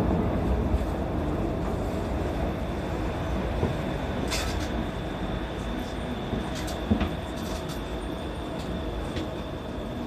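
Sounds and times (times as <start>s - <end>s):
monorail running gear rumble: 0.0s - 10.0s.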